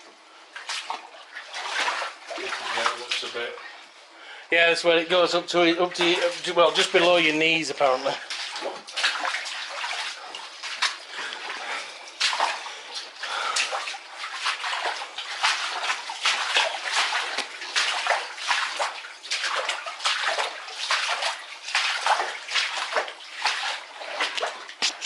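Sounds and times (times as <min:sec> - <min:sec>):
wading through water splashing: 0:00.0 - 0:03.9, 0:05.1 - 0:25.0.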